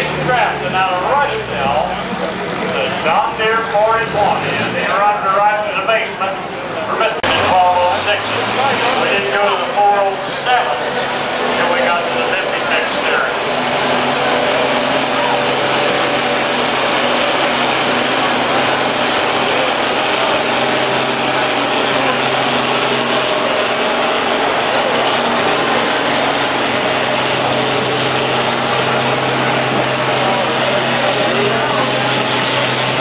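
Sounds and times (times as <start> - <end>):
tractor engine under full load: 0.0 - 33.0.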